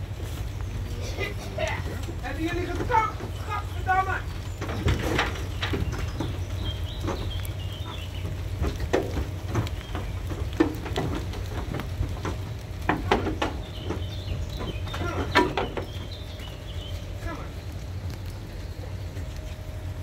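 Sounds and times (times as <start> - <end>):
hooves clattering on metal floor: 1.2 - 17.8.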